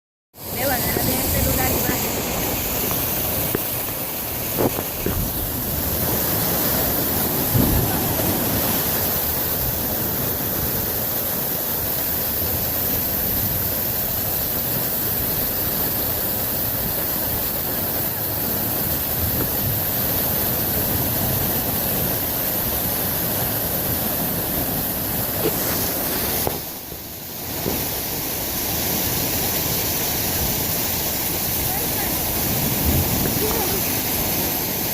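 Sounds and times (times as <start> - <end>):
water rushing: 0.4 - 34.9.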